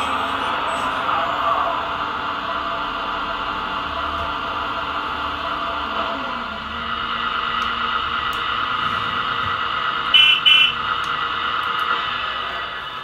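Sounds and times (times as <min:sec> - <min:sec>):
engine sound from small speaker: 0:00.0 - 0:13.0.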